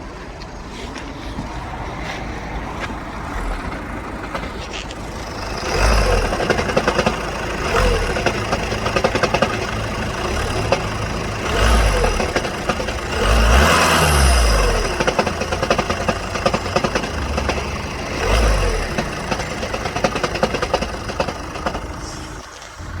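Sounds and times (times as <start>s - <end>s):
diesel engine knocking: 0.0s - 23.0s.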